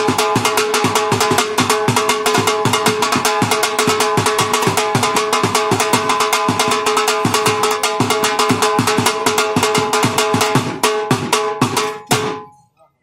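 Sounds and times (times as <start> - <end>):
barrel drum beaten fast: 0.0 - 12.4.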